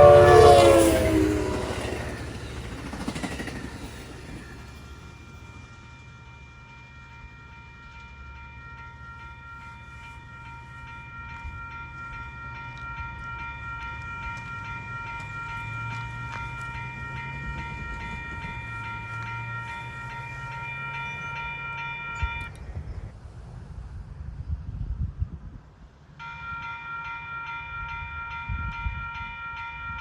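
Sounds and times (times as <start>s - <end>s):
high chord of tones: 0.0s - 22.6s, 26.2s - 30.0s
train rumble: 0.0s - 30.0s.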